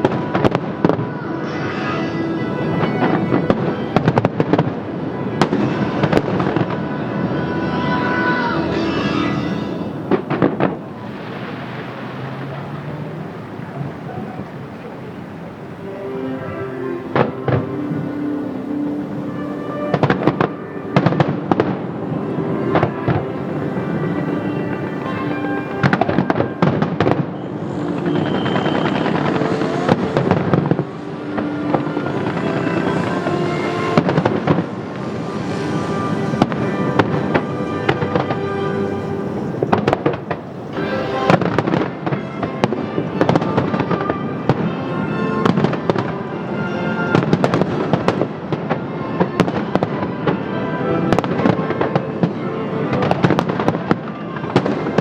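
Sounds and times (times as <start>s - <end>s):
fireworks bangs and crackles: 0.0s - 15.9s, 16.5s - 55.0s
music with sustained notes: 0.0s - 55.0s.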